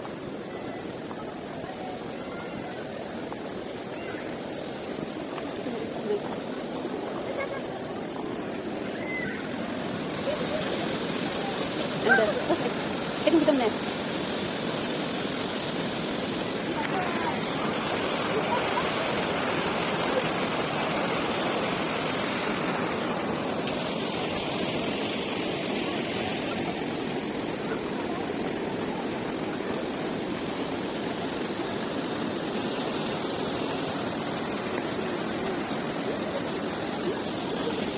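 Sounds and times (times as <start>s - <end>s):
flowing water rushing: 0.0s - 37.9s.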